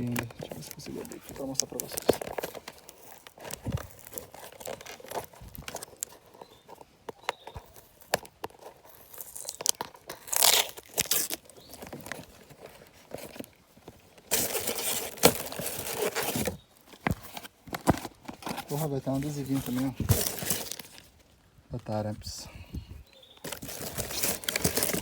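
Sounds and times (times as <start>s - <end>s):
plastic wrap crinkling and tearing: 0.0s - 21.4s, 23.4s - 25.0s.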